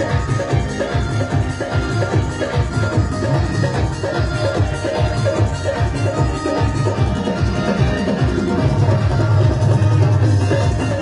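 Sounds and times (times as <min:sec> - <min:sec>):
instrumental music with strong bass: 0:00.0 - 0:11.0.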